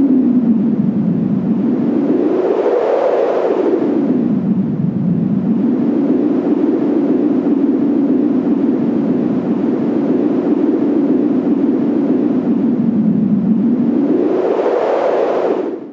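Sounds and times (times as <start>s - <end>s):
wind rushing: 0.0s - 15.9s.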